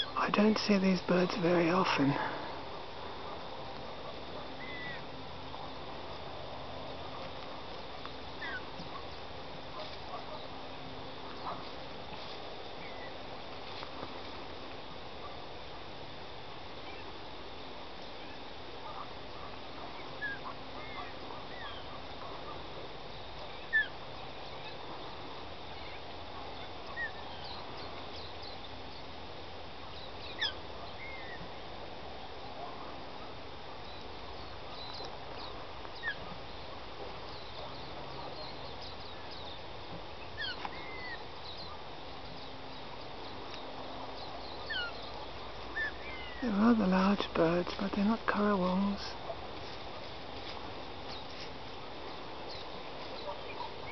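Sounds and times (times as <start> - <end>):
outdoor background hiss: 0.0 - 53.9.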